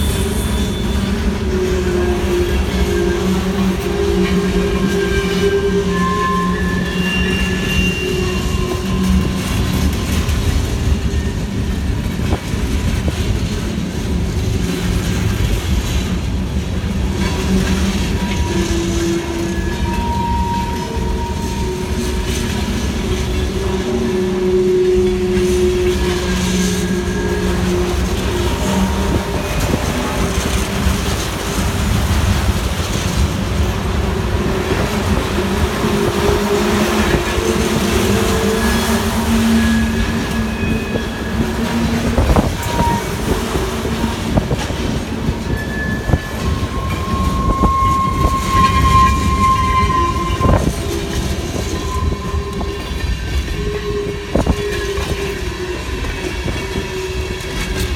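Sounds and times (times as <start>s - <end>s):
wheel squeals: 0.0s - 13.5s, 17.2s - 57.9s
train wheels rumbling on rails: 0.0s - 57.9s.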